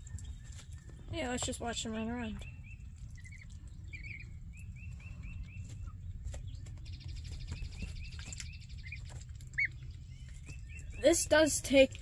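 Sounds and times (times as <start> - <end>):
ducklings peeping: 0.0 - 12.0
low steady hum: 0.0 - 12.0.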